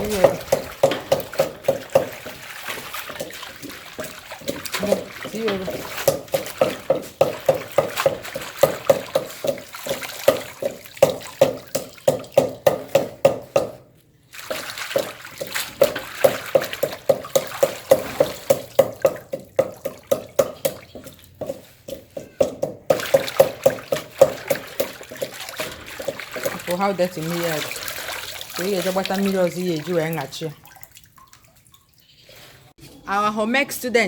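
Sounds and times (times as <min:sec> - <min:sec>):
hands splashing in water: 0:00.0 - 0:12.4, 0:14.3 - 0:21.4, 0:22.9 - 0:31.9.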